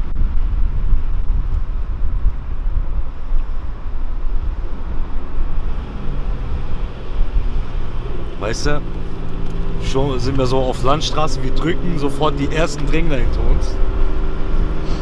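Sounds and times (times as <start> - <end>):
car engine rumble in cabin: 0.0 - 15.0
road and wind noise: 0.0 - 15.0.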